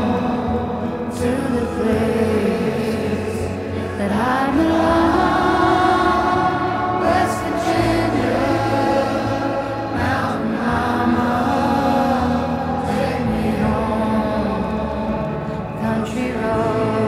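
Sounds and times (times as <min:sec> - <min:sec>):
layered wordless vocal harmony: 0:00.0 - 0:17.0.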